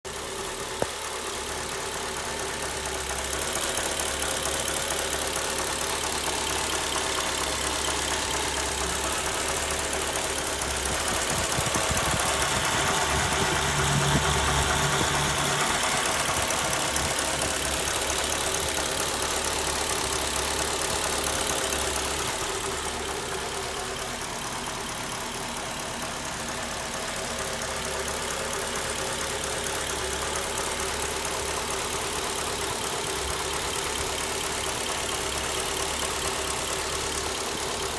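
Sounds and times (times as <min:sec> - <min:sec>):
car engine running: 0:00.1 - 0:37.9
engine rattling clatter: 0:00.1 - 0:37.9.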